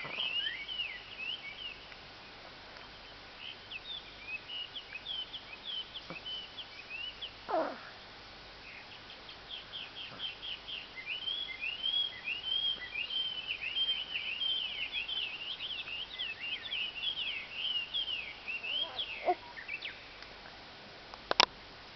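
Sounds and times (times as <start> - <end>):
birds chirping and twittering: 0.0 - 20.3.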